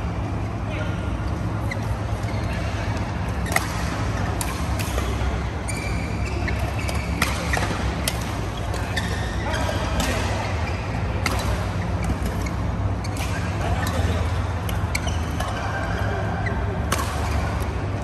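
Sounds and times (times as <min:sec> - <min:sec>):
steady low hum: 0:00.0 - 0:18.0
shoes squeaking on court: 0:01.2 - 0:18.0
racquets hitting shuttlecock: 0:02.6 - 0:18.0.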